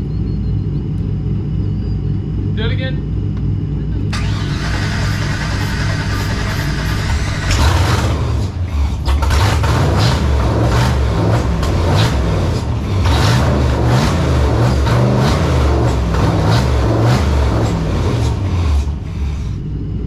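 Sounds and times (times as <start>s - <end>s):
engine running with throttle blips: 0.0s - 20.0s.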